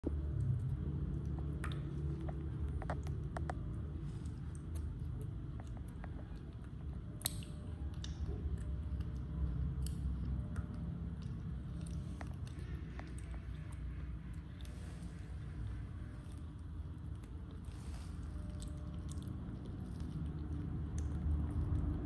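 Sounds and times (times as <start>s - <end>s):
low background rumble: 0.0s - 22.0s
monkey chewing and smacking: 0.0s - 22.0s.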